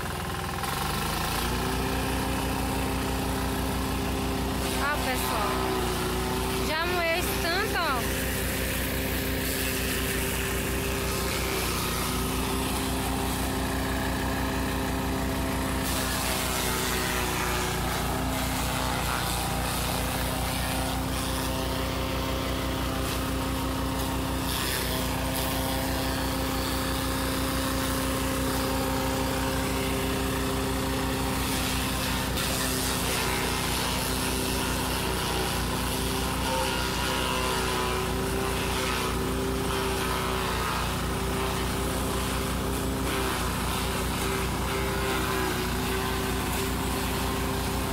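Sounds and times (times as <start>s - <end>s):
forage chopper humming: 0.0s - 47.9s.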